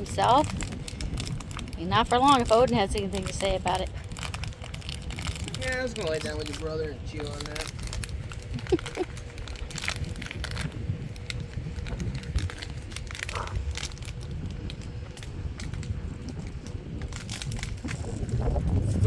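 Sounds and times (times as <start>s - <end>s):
dog chewing crinkly toy: 0.0s - 18.6s.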